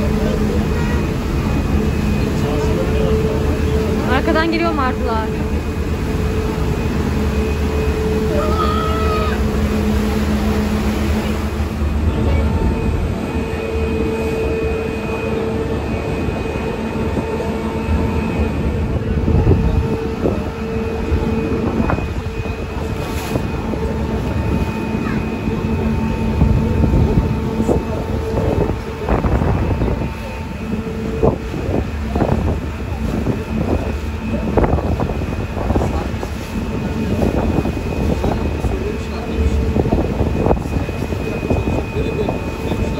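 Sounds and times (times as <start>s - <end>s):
ferry engine drone: 0.0s - 42.9s
water noise: 0.0s - 42.9s
wind: 0.0s - 42.9s.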